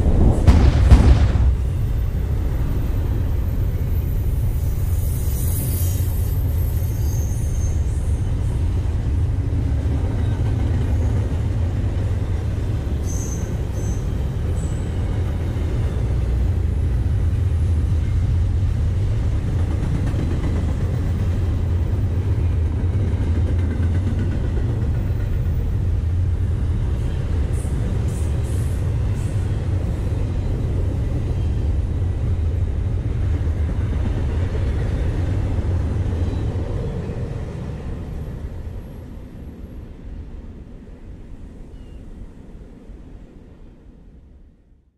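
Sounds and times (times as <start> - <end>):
freight train rumbling past: 0.0 - 44.8.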